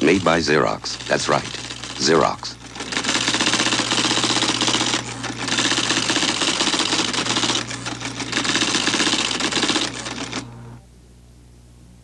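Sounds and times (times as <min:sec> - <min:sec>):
typewriters clattering: 0:00.0 - 0:10.5
typewriter motor hum: 0:00.0 - 0:10.8.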